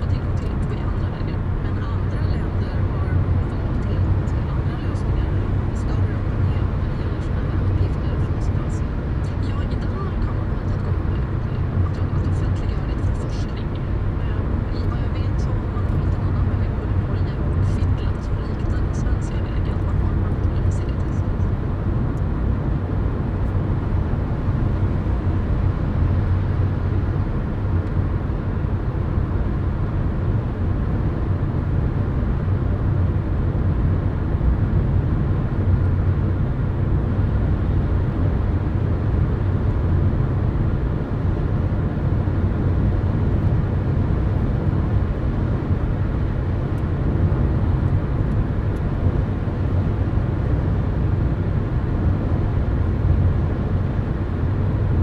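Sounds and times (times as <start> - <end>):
car road noise on highway: 0.0 - 55.0.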